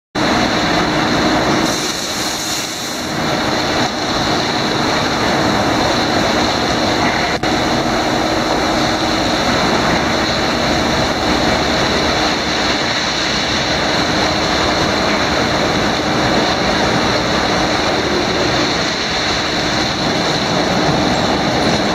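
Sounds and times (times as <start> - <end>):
car wash brushes and water spray: 0.2 - 21.9
constant machine hum: 0.2 - 21.9.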